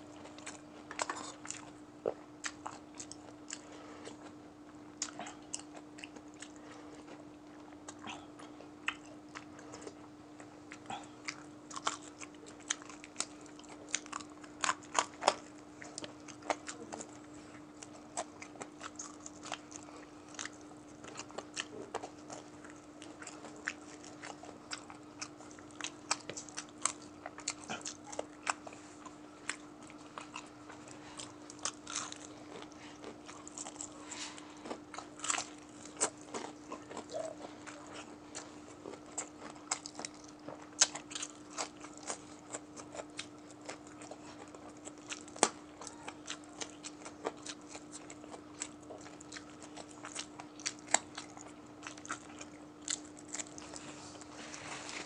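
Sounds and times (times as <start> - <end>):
crunching of fried chicken: 0.0 - 55.0
steady low hum: 0.0 - 55.0
wet chewing: 0.1 - 4.4, 5.0 - 55.0.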